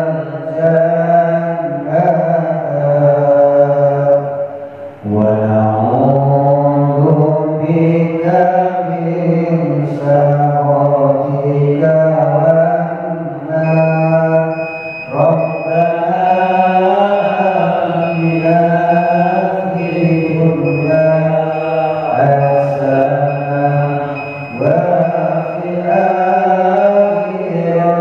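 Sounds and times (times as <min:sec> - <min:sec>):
man chanting into a microphone: 0:00.0 - 0:28.0.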